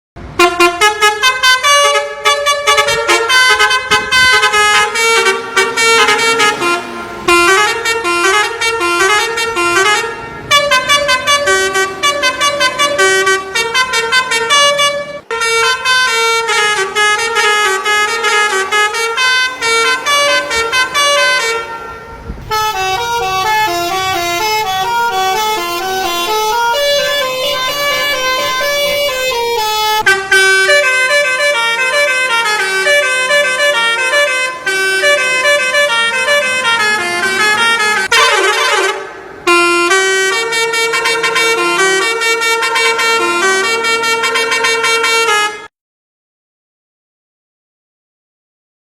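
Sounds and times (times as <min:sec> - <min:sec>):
multi-tone bus horn playing tune: 0:00.2 - 0:45.8.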